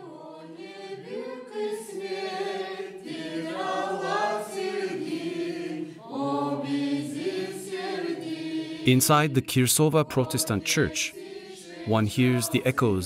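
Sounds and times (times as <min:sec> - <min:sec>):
church choir singing a hymn: 0:00.0 - 0:13.0.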